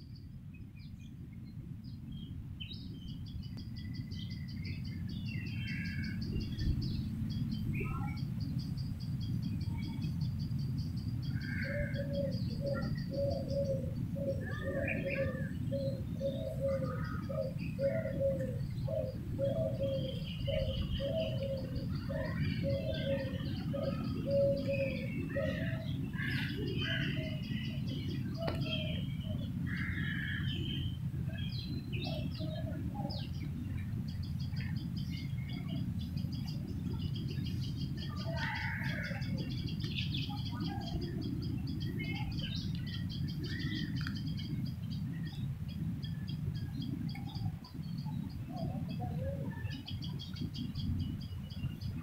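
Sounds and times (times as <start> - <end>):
steady low rumble: 0.0 - 52.0
birds chirping: 0.6 - 52.0
low repeated bird notes: 2.2 - 52.0.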